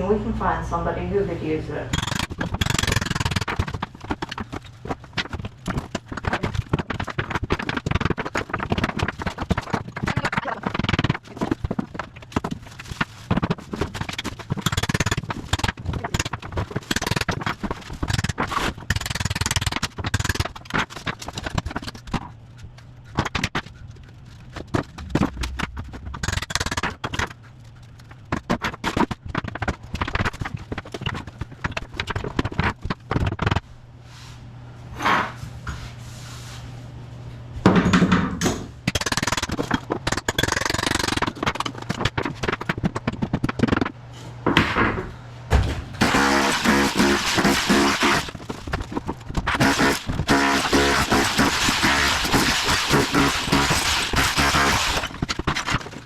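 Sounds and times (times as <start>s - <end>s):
low steady hum: 0.0s - 56.0s
scraping and knocking of demolition: 1.9s - 33.7s, 37.6s - 56.0s.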